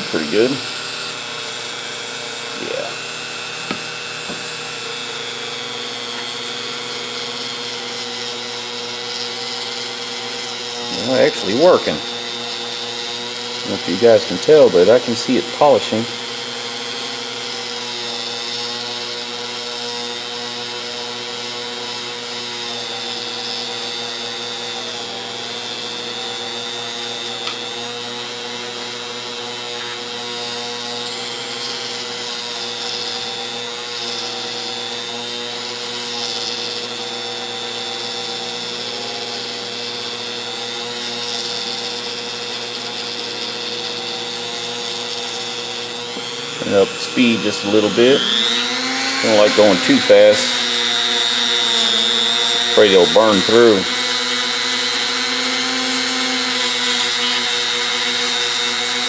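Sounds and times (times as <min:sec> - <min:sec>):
rotary tool polishing plastic: 0:00.0 - 0:59.0.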